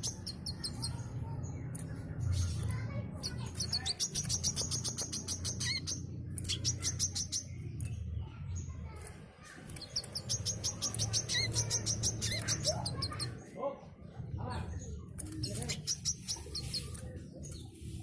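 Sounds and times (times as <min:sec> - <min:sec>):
sunbird singing: 0:00.0 - 0:08.5, 0:09.4 - 0:14.0, 0:14.6 - 0:18.0.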